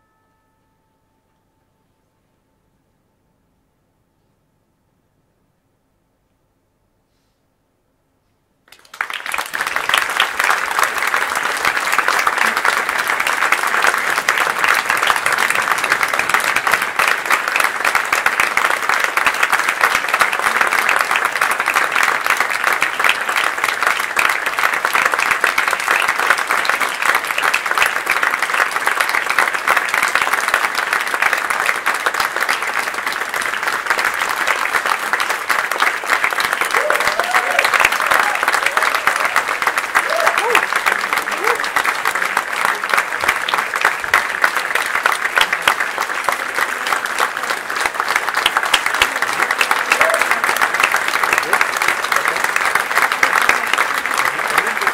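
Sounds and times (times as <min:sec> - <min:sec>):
audience applauding: 0:08.7 - 0:54.9.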